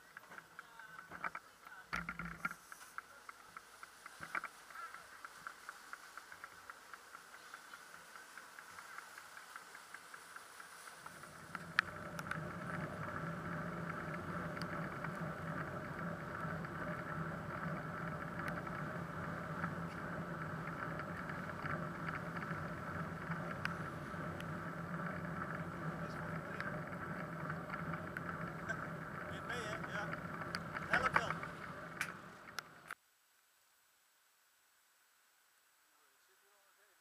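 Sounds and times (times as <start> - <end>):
bicycle rolling: 0.0 - 33.0
motorway traffic: 0.0 - 33.0
small clicks and rattles: 0.0 - 33.0.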